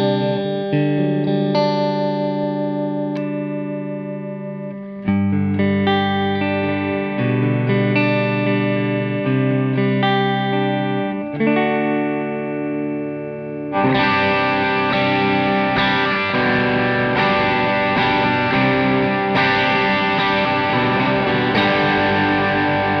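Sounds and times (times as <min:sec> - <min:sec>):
distorted guitar chords: 0:00.0 - 0:23.0
ringing electric guitar chord: 0:00.0 - 0:23.0.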